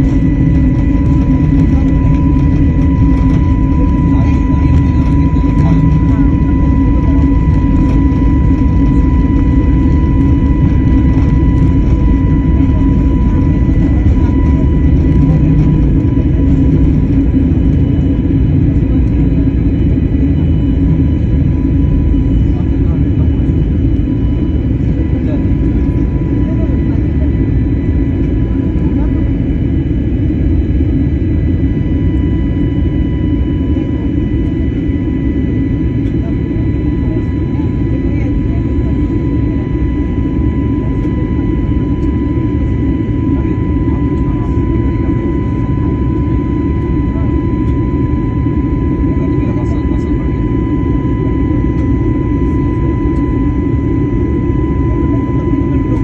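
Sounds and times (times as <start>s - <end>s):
airplane engines rumbling: 0.0s - 56.0s
high engine whine: 0.0s - 56.0s.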